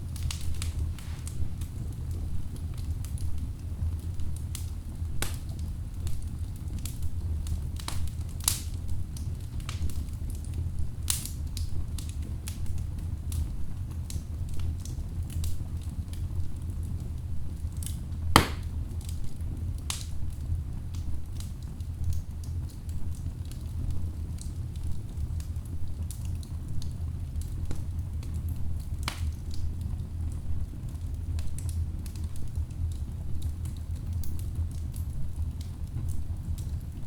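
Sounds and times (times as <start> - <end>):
crackles and pops of burning logs: 0.0 - 37.0
fire low rumble: 0.0 - 37.0.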